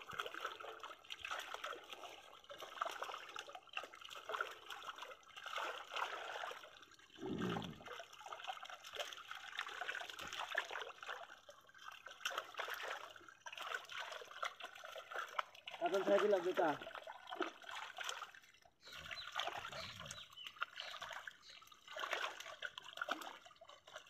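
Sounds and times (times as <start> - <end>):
fish splashing in shallow water: 0.0 - 24.0.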